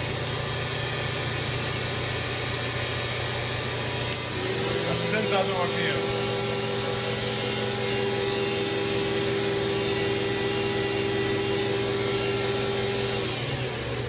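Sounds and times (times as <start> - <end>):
mill spindle whine: 0.0 - 14.0.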